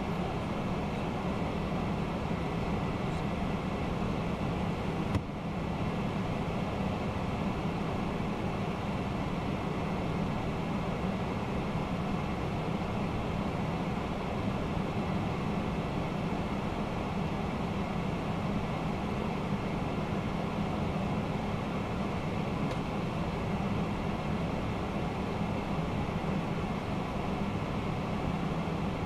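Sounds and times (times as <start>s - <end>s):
low engine and ventilation hum: 0.0s - 29.0s.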